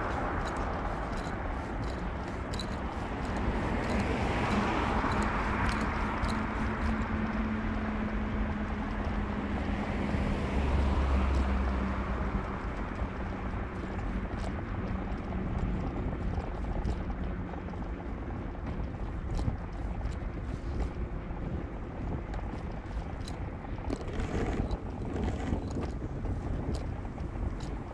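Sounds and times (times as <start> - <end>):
car engine hum: 0.0 - 27.9
road noise: 0.0 - 27.9.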